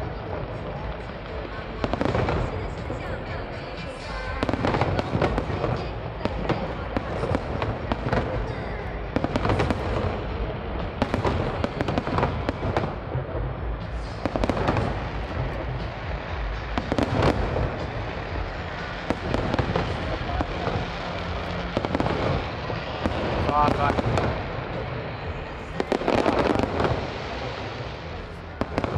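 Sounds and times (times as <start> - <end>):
fireworks rumble and crackling: 0.0 - 28.9
loud fireworks bangs: 0.0 - 28.9.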